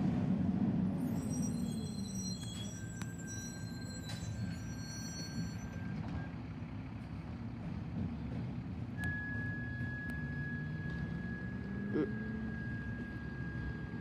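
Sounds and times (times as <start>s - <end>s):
diesel truck engine rumble: 0.0s - 14.0s.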